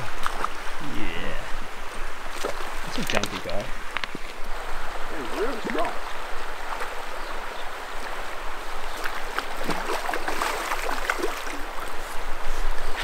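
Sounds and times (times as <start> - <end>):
stream water rippling: 0.0 - 13.0.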